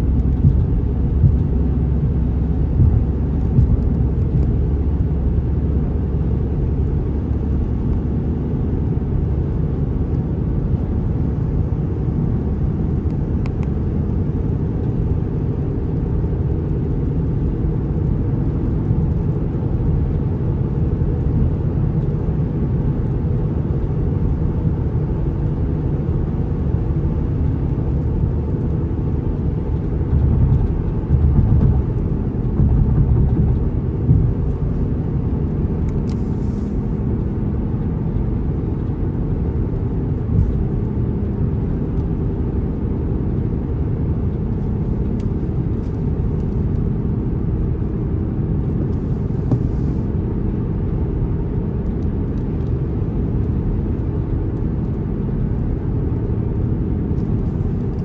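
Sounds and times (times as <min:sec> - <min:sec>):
road and tyre rumble in car: 0:00.0 - 0:58.0.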